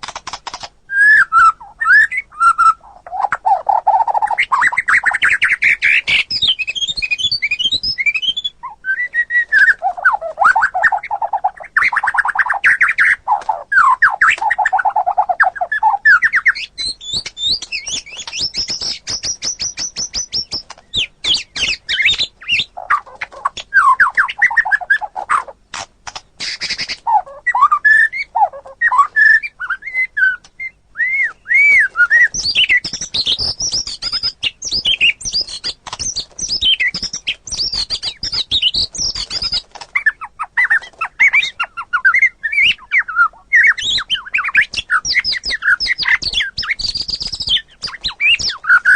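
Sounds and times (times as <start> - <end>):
songbird singing: 0.0 - 48.9.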